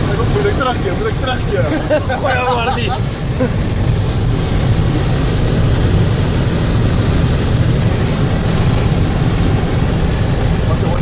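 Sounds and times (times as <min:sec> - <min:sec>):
motorcycle engine drone: 0:00.0 - 0:11.0
road and wind noise: 0:00.0 - 0:11.0.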